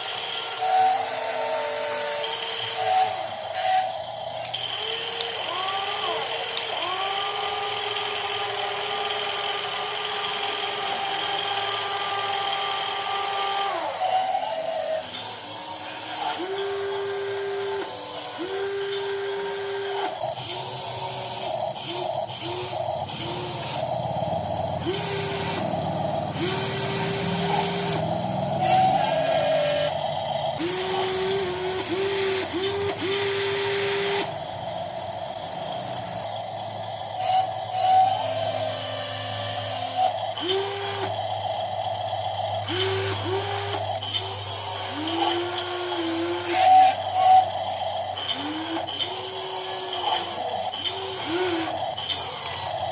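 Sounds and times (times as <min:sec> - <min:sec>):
electric motors and gearboxes whining: 0:00.0 - 0:52.9.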